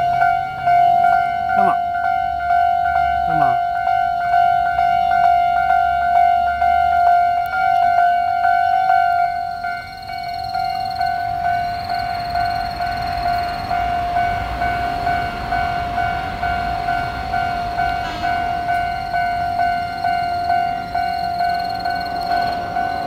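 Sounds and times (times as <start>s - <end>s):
level-crossing warning bell: 0.0s - 23.0s
train rumbling past: 0.0s - 23.0s.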